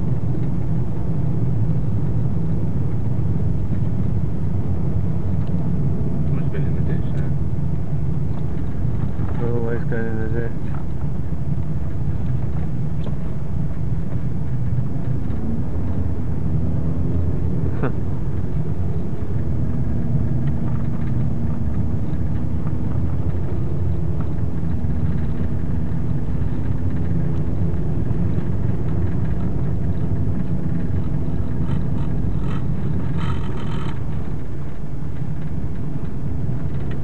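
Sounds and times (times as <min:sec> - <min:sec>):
car engine drone and road rumble: 0:00.0 - 0:37.0.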